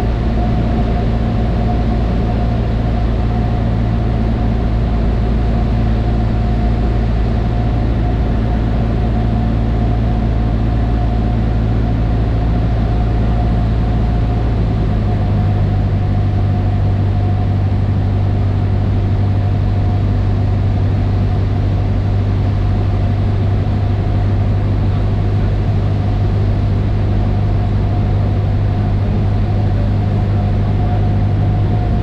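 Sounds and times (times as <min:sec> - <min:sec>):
light aircraft engine droning: 0:00.0 - 0:32.0.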